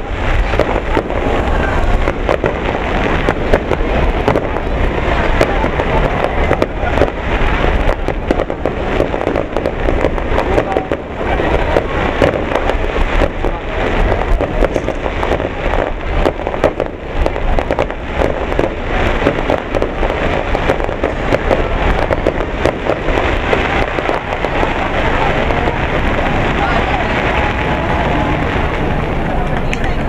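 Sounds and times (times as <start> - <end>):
fireworks crackling: 0.0 - 30.0
low rumble of fireworks booms: 0.0 - 30.0.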